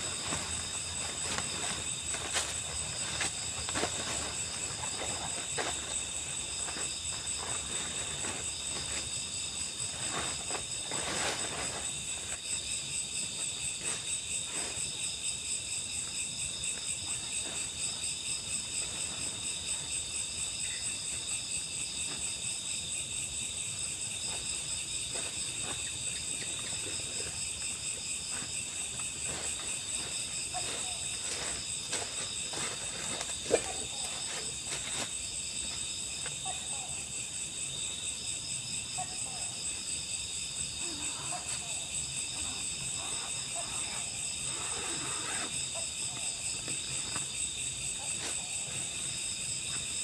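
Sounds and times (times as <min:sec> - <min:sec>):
crickets chorus: 0:00.0 - 0:50.0.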